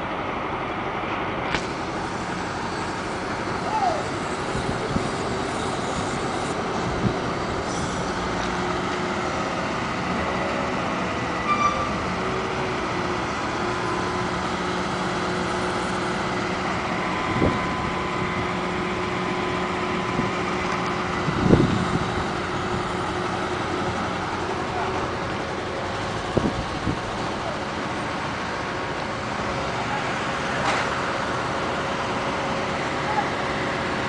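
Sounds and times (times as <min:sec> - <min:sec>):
machinery engine drone: 0:00.0 - 0:34.0.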